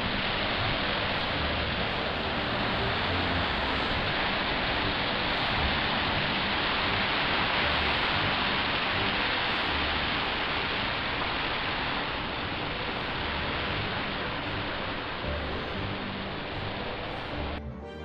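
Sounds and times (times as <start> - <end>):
low rumble: 0.0 - 17.6
ocean surf on rocks: 0.0 - 17.6.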